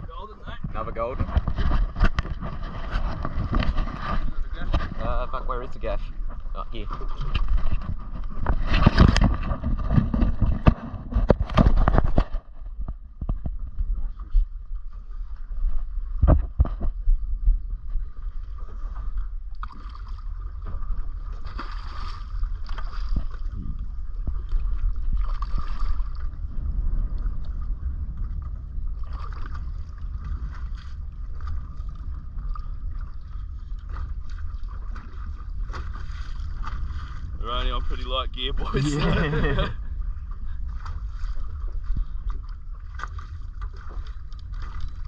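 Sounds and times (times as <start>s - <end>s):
wind rumbling on microphone: 0.0s - 45.0s.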